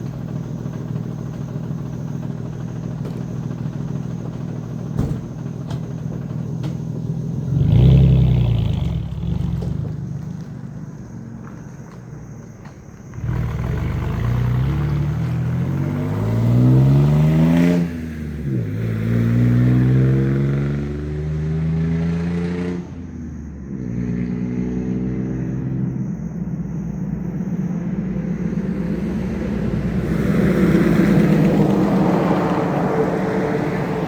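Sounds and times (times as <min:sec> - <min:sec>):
truck engine accelerating: 0:00.0 - 0:34.0.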